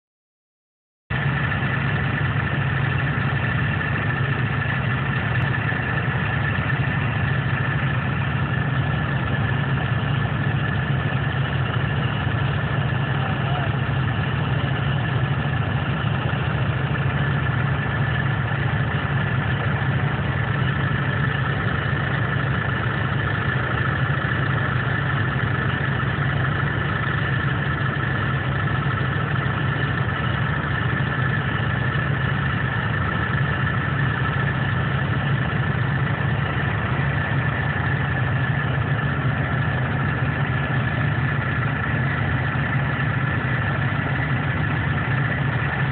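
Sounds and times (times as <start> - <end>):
engine hum: 1.1 - 45.9.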